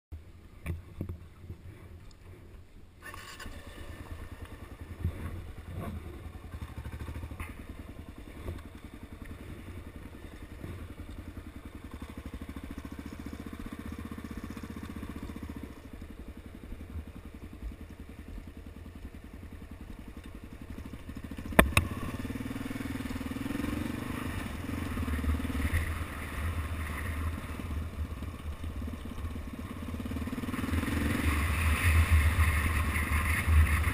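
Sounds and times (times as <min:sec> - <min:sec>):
motorcycle engine running: 0:00.7 - 0:33.9.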